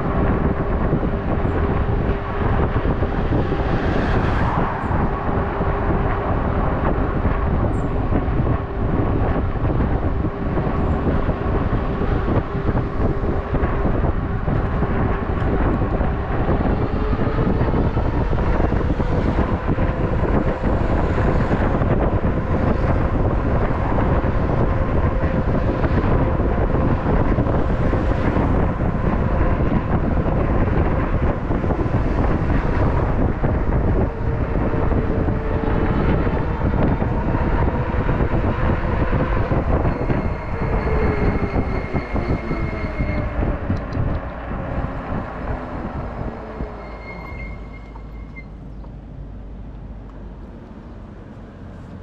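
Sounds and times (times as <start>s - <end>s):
street traffic: 0.0s - 52.0s
wind on microphone: 0.0s - 52.0s.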